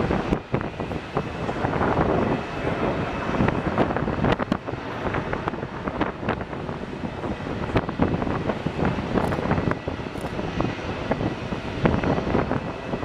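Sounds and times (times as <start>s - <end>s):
jet engines running: 0.0s - 13.0s
wind on microphone: 0.0s - 13.0s.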